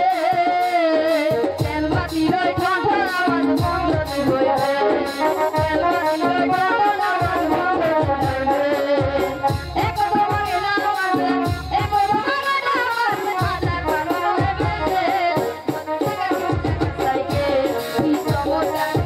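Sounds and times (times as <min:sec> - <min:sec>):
boy singing into a microphone: 0:00.0 - 0:19.0
music with drum beat: 0:00.0 - 0:19.0.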